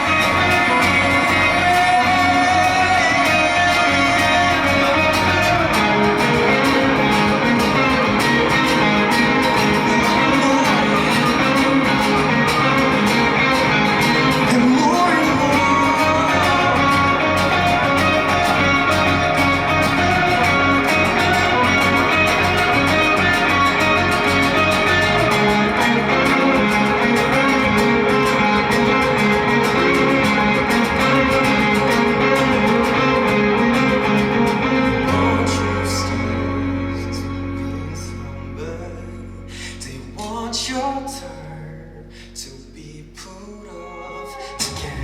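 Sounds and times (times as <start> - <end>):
band music with guitar: 0.0 - 45.0.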